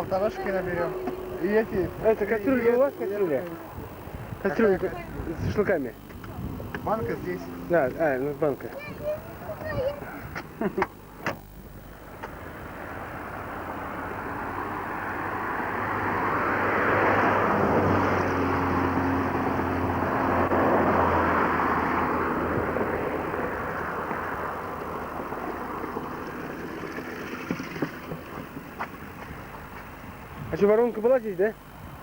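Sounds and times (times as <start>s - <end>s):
motor vehicle passing by: 0.0s - 9.2s, 12.3s - 29.4s.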